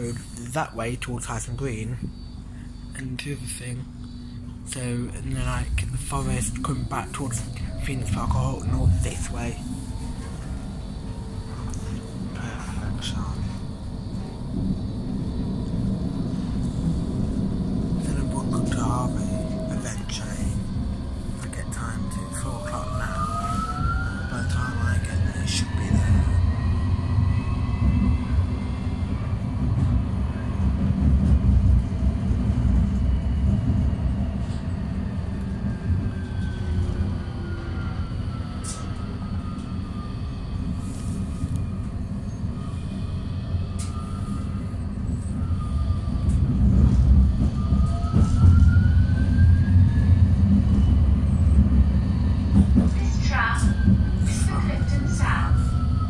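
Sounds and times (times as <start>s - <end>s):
tram wheels rumbling: 0.0s - 56.0s.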